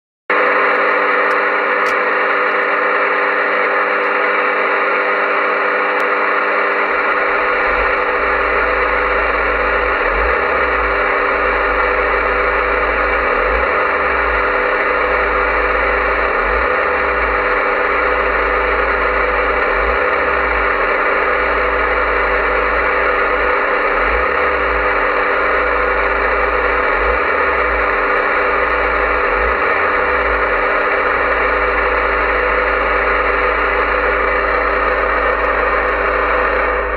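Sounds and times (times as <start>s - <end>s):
radio static hiss: 0.3s - 36.9s
steady radio tones: 0.3s - 36.9s
low rumble: 6.2s - 36.9s.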